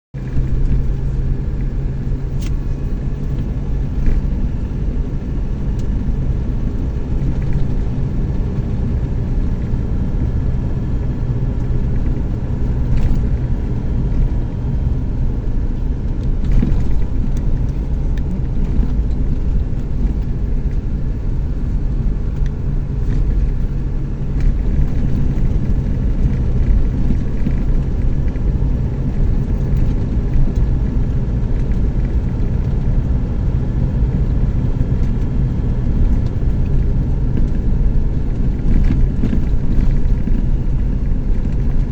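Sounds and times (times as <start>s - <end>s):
pickup engine and road rumble: 0.1s - 41.9s.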